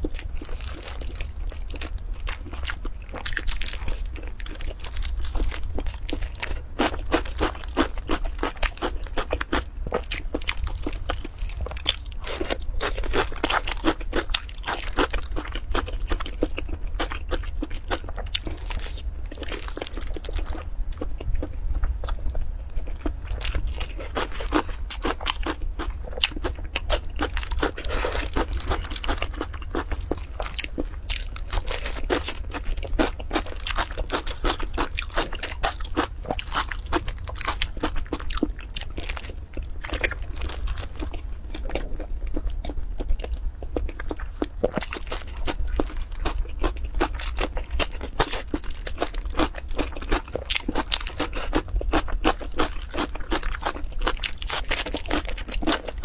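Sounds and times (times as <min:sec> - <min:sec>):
low steady hum: 0:00.0 - 0:56.0
person crunching and chewing: 0:00.0 - 0:56.0.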